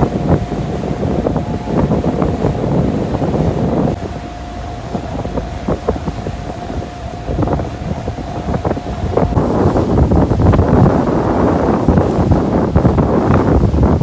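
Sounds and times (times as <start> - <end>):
faint steady whine: 0.0 - 14.0
low rumble of ship engine: 0.0 - 14.0
wind buffeting microphone: 0.0 - 14.0.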